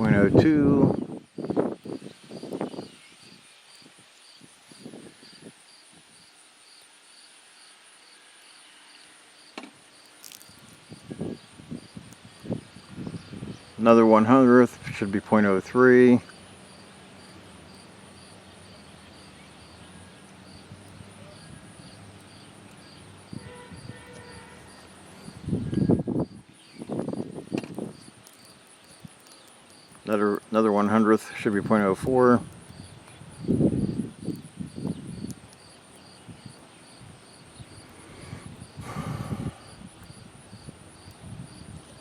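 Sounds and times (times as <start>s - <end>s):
crickets chirping: 0.0s - 42.0s
high insect trill: 0.0s - 42.0s.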